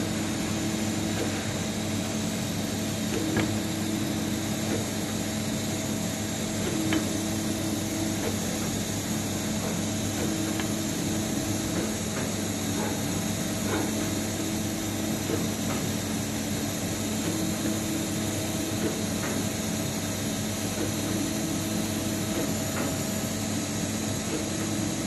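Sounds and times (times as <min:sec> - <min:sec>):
hydraulic pump running: 0:00.0 - 0:25.0.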